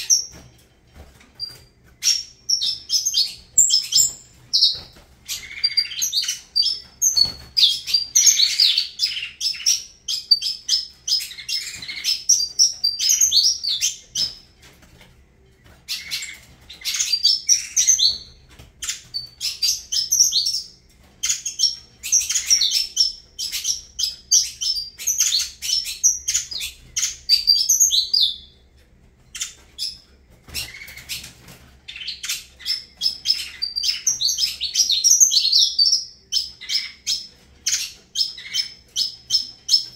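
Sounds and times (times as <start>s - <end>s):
finch singing chirps and trills: 0.0s - 0.6s, 1.4s - 14.5s, 15.6s - 28.6s, 29.3s - 39.9s.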